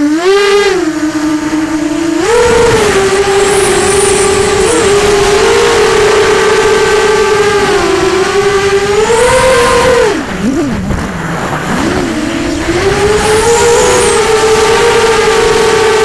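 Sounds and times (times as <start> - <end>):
quadcopter motors and propellers whining: 0.0 - 16.0.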